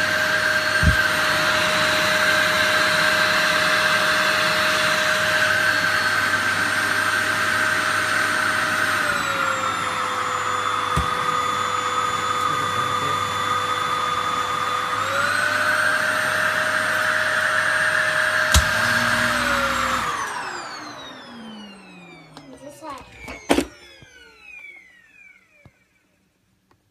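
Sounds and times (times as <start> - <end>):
vacuum cleaner motor whining: 0.0 - 26.8.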